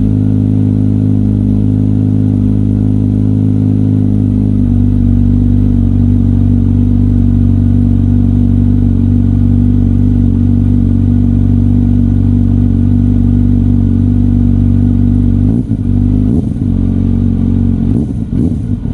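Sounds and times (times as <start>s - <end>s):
engine revving: 0.0s - 18.9s
motorcycle engine idling: 0.0s - 18.9s.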